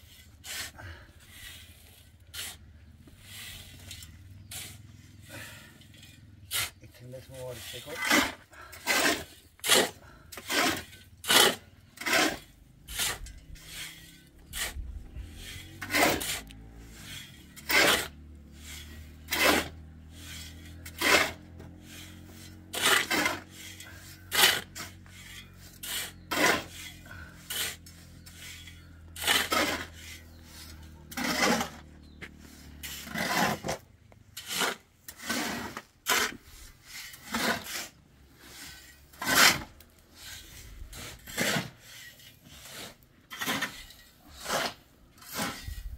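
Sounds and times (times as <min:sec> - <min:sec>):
rasping scrapes: 0:00.0 - 0:45.9.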